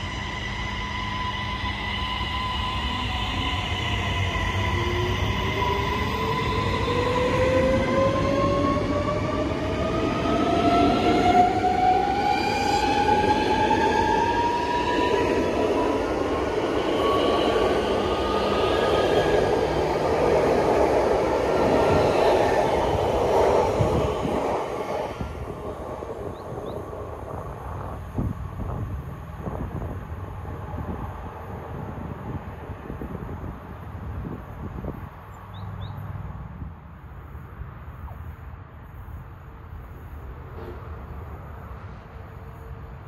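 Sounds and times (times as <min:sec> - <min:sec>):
train wheels rumbling on track: 0:00.0 - 0:35.3, 0:37.9 - 0:43.0.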